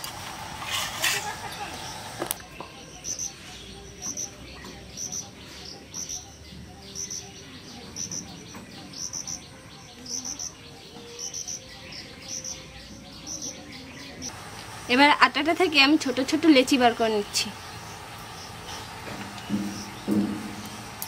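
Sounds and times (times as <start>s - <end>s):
faint steady background noise: 0.0s - 21.0s.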